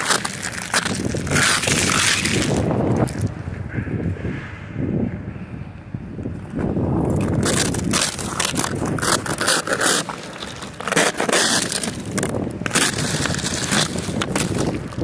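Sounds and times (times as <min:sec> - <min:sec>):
ice crunching and scraping: 0:00.0 - 0:03.8, 0:06.6 - 0:15.0.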